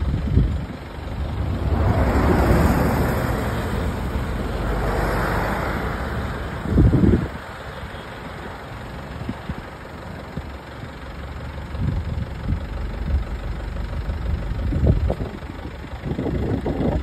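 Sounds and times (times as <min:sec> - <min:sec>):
low engine rumble: 0:00.0 - 0:17.0
vehicles passing by: 0:00.0 - 0:17.0.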